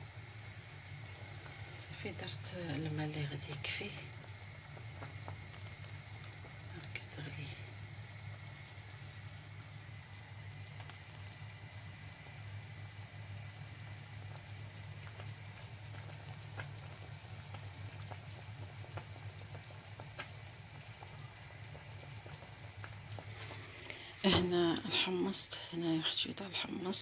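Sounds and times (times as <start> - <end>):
broth bubbling in a pot: 0.0 - 27.0.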